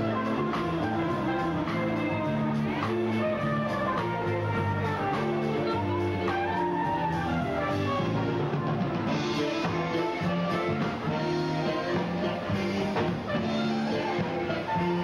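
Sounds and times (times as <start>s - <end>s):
drum kit: 0.0s - 15.0s
flugelhorn melody: 0.0s - 15.0s.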